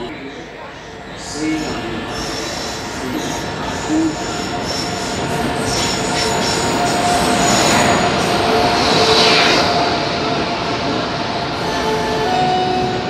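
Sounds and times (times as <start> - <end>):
diesel train rumbling past: 0.0 - 13.0
steady high whine: 0.0 - 13.0.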